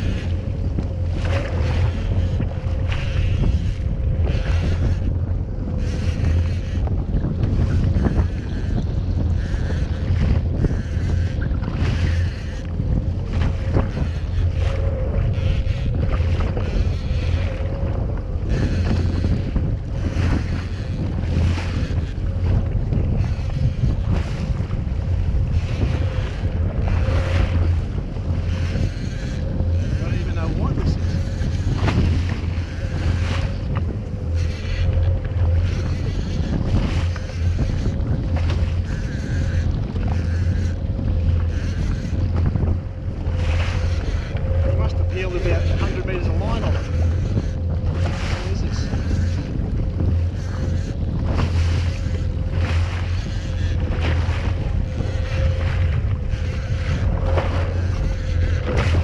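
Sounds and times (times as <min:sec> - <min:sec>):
jet ski engine running: 0:00.0 - 0:59.0
water slapping against hull: 0:00.0 - 0:59.0
wind buffeting microphone: 0:00.0 - 0:59.0.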